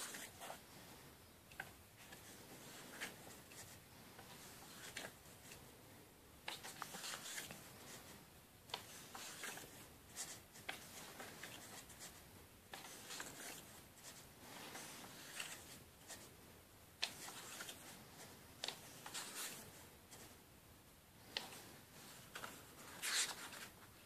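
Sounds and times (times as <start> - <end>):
book pages turning: 0.0 - 0.6, 1.5 - 5.6, 6.4 - 8.1, 8.7 - 16.3, 17.0 - 20.3, 21.2 - 24.0.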